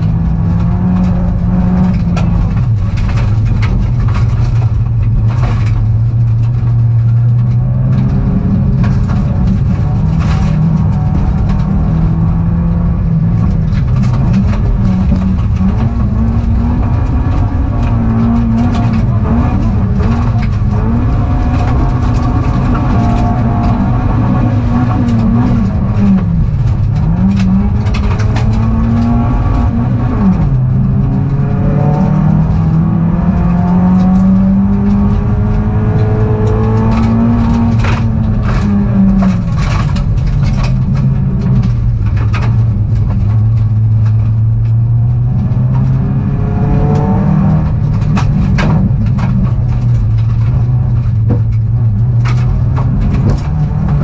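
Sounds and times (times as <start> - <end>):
rally car engine revving: 0.0 - 54.0
road and tyre rumble: 0.0 - 54.0
sharp clicks and knocks: 0.0 - 54.0.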